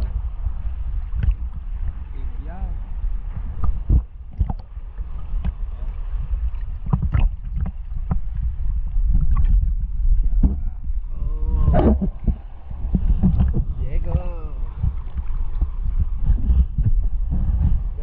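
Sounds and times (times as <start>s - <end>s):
sea water sloshing rumble: 0.0s - 18.0s
water splashes: 0.0s - 18.0s.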